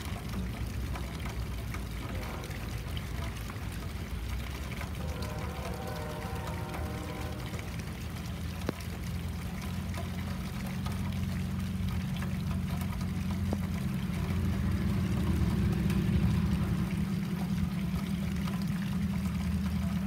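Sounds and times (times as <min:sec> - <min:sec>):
diesel locomotives rumbling: 0:00.0 - 0:20.0
rain patter: 0:00.0 - 0:20.0.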